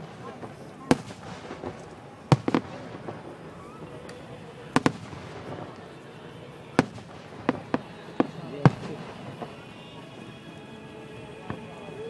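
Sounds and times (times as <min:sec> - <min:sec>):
fireworks bangs: 0:00.0 - 0:10.3.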